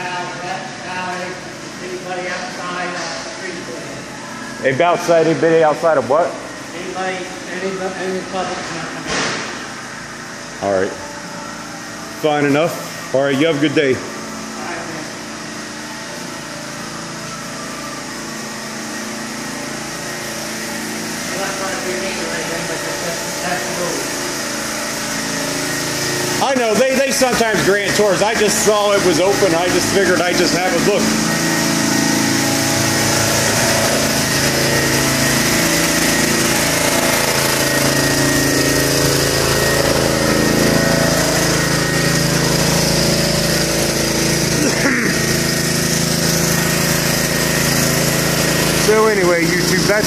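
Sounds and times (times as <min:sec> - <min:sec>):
generator humming: 0:00.0 - 0:50.0.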